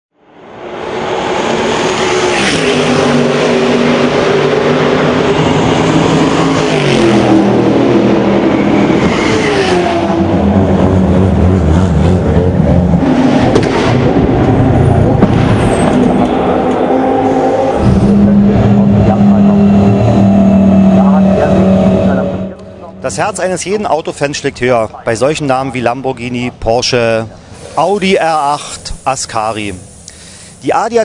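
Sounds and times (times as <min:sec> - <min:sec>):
race car engines revving: 0:00.4 - 0:30.3.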